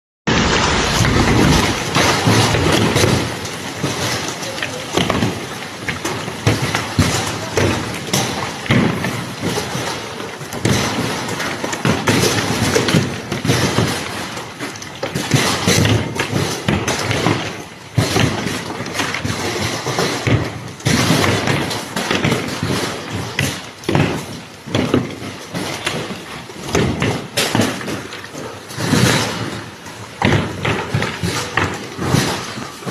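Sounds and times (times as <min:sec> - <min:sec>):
construction knocks and clatter: 0:00.3 - 0:32.9.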